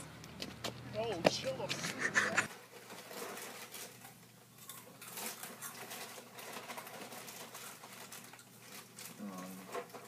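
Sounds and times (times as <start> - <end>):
snack packaging crackling: 0.0 - 10.0.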